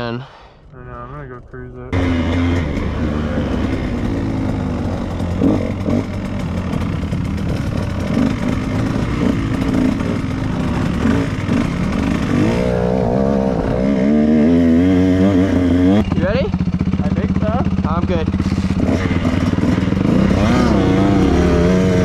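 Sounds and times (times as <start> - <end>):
dirt bike engine revving: 1.0 - 22.0.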